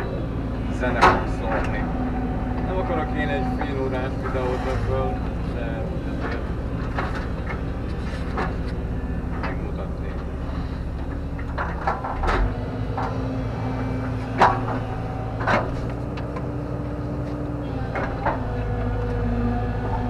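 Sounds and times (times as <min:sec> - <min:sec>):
digging clunks and knocks: 0:00.0 - 0:20.0
excavator diesel engine running: 0:00.0 - 0:20.0.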